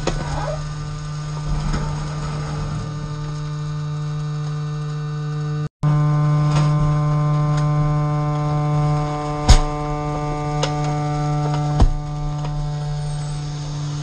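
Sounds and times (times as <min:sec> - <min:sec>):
hydraulic drive humming: 0:00.0 - 0:14.0.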